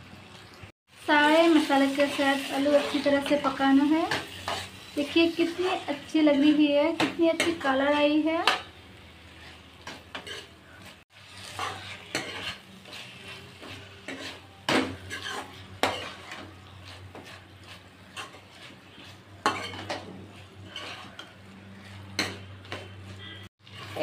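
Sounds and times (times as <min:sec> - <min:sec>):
soft sizzle of cooking: 0:00.0 - 0:24.0
spoon stirring and scraping a pan: 0:01.2 - 0:24.0.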